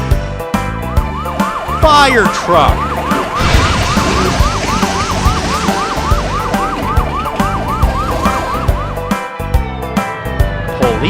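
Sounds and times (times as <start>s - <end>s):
fire engine siren yelping: 0.6s - 9.7s.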